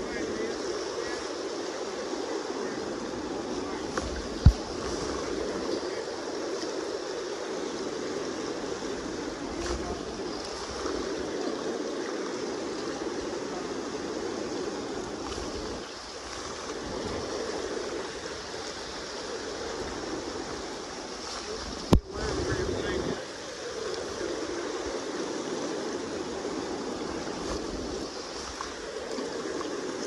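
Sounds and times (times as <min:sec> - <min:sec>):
river current rushing: 0:00.0 - 0:30.0.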